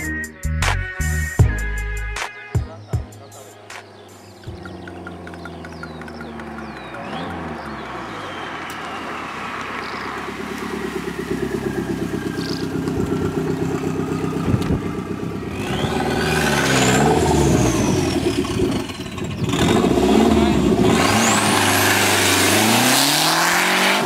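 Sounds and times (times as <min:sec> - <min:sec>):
car engine revving: 0:03.4 - 0:24.0.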